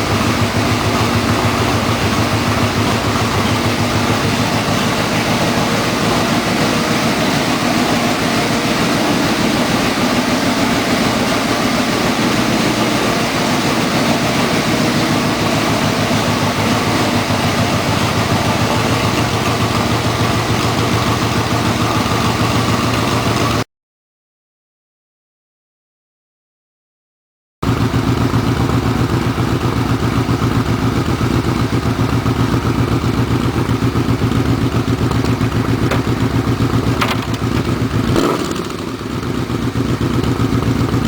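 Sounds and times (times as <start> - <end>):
motorcycle engine idling: 0.0 - 23.6, 27.6 - 41.0.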